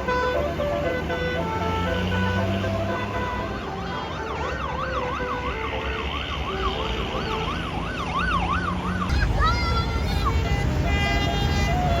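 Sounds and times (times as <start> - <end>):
passing vehicle engine rumble: 0.0 - 12.0.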